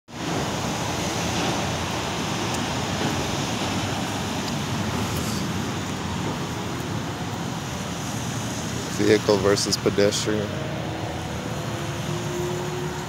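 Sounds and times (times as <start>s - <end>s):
traffic rumble and hiss: 0.1s - 13.0s.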